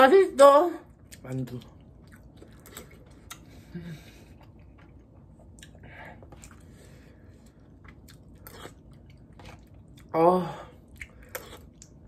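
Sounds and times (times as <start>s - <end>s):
chewing soft food: 0.9s - 12.0s.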